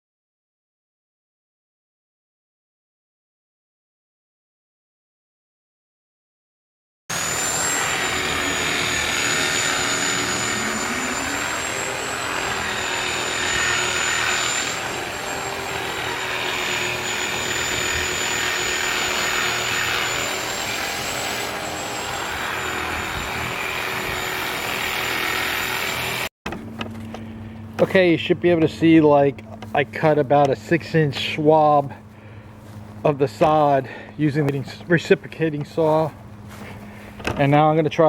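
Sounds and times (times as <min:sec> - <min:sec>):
reciprocating saw cutting sod: 0:07.1 - 0:38.0.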